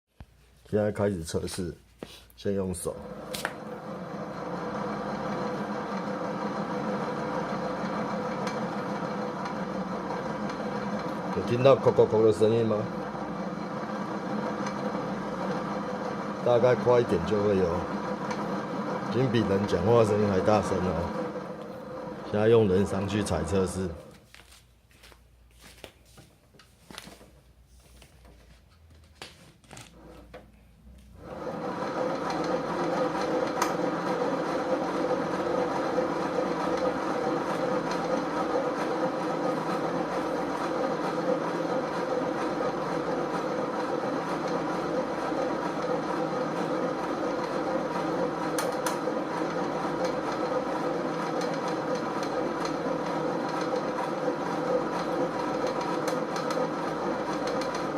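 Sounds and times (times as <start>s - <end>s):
exercise bike mechanical rumble: 2.6s - 25.2s, 28.0s - 57.9s.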